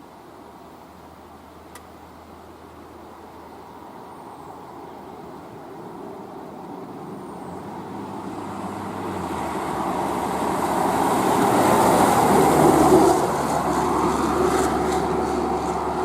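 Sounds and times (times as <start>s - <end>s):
fire engine approaching: 2.3s - 16.0s.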